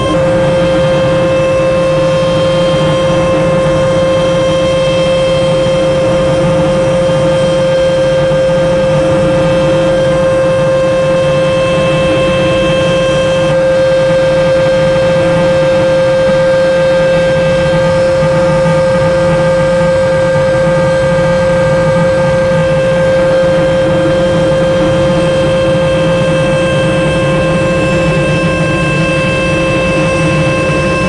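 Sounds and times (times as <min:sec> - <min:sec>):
car wash machine whine: 0:00.0 - 0:31.0.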